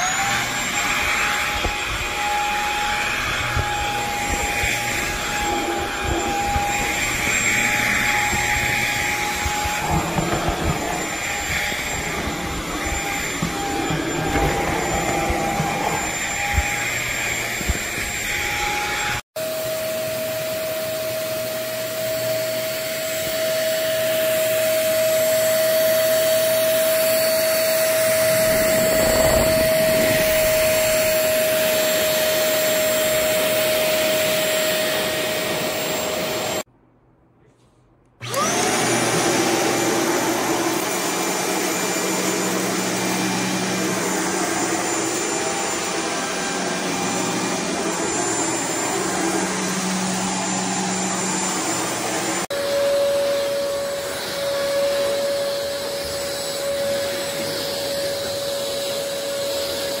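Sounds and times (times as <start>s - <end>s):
vacuum cleaner running: 0.0s - 36.7s, 38.2s - 60.0s.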